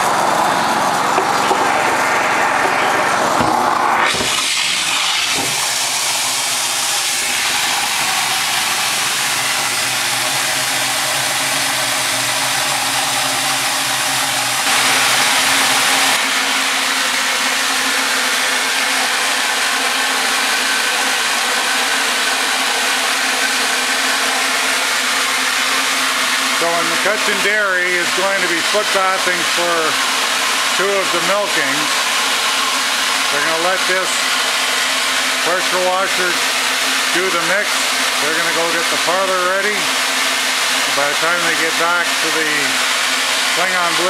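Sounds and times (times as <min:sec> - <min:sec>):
pressure washer jet churning water: 0:00.0 - 0:44.0.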